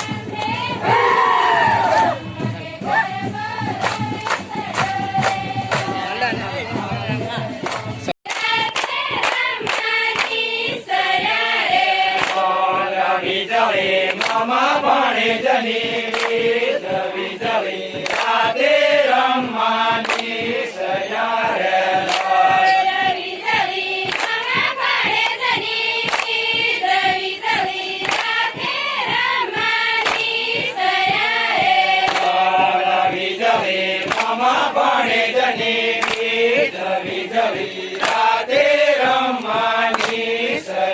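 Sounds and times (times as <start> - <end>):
group of voices chanting: 0.0 - 40.9
sharp percussive strikes: 1.8 - 40.8.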